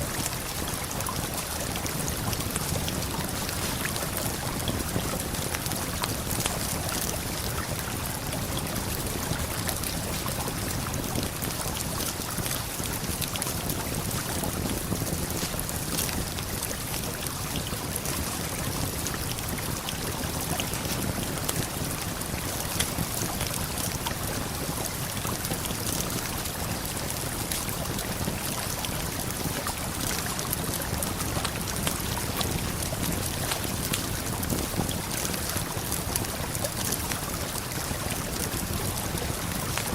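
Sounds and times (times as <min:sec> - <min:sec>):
waterfall and flowing river: 0:00.0 - 0:39.9
campfire crackling and popping: 0:00.1 - 0:39.9.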